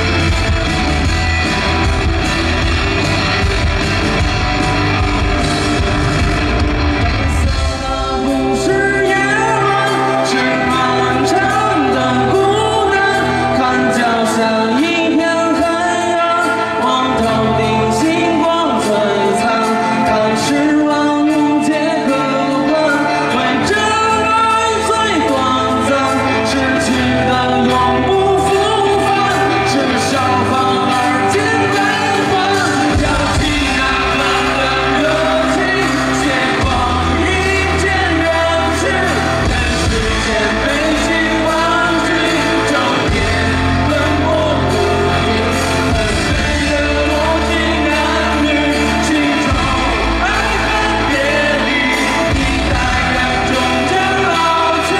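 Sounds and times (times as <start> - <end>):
live pop rock band: 0.0 - 54.9
person singing: 0.0 - 54.9.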